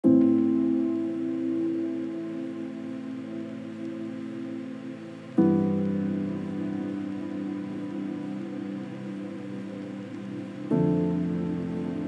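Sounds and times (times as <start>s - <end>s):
calm held music chord: 0.0s - 12.0s.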